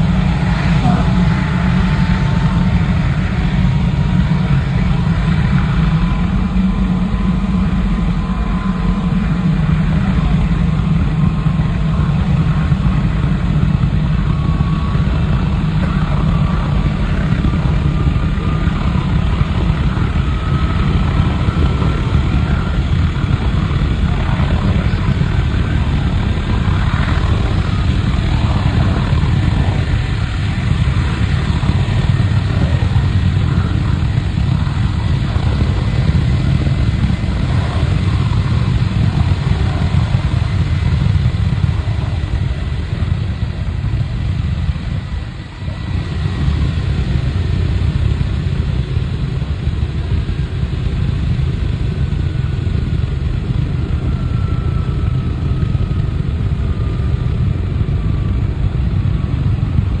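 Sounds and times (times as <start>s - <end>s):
faint falling whine: 0.0s - 50.3s
jet engine roaring: 0.0s - 60.0s.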